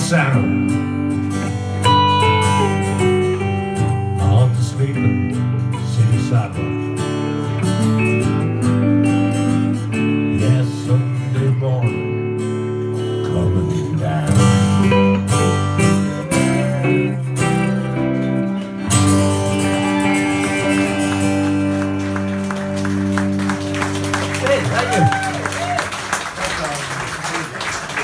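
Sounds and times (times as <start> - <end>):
acoustic guitar strumming: 0.0 - 25.6.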